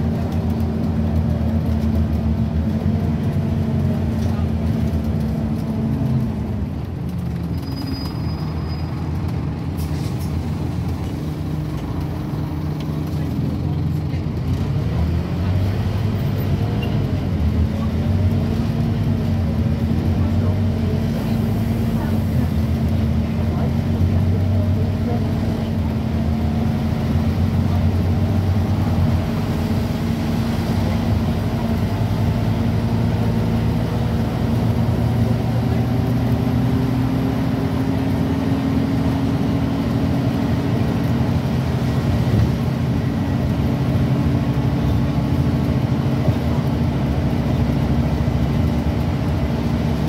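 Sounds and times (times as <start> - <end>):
bus diesel engine running: 0.0 - 50.0
road and tyre noise: 0.0 - 50.0.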